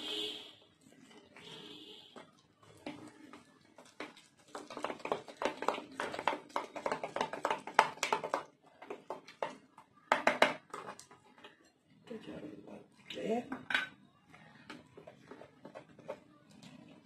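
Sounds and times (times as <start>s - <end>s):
spoon beating batter in a tub: 0.6s - 17.0s.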